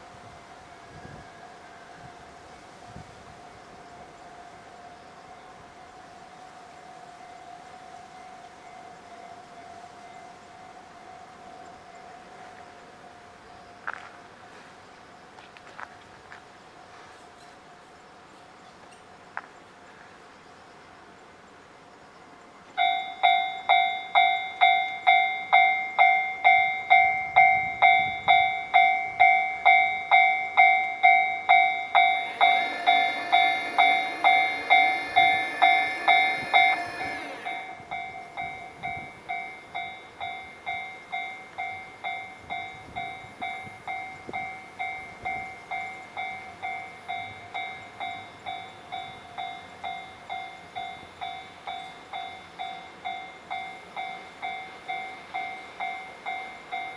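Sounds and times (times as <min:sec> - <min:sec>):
railroad crossing electronic bell: 0:00.0 - 0:20.0, 0:20.6 - 0:56.9.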